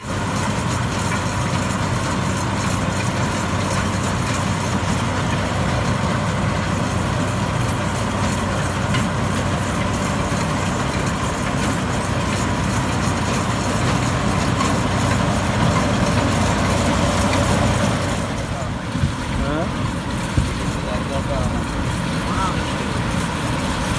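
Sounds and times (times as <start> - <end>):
combine harvester engine: 0.0 - 23.9
machine clatter: 0.0 - 23.9.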